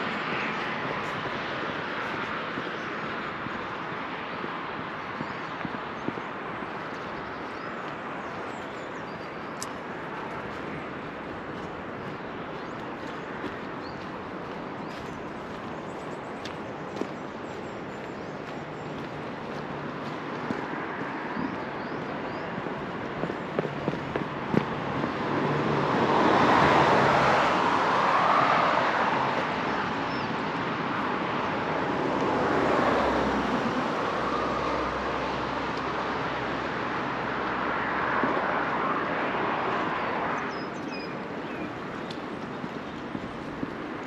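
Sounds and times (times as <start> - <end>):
vehicles passing by: 0.0 - 44.0.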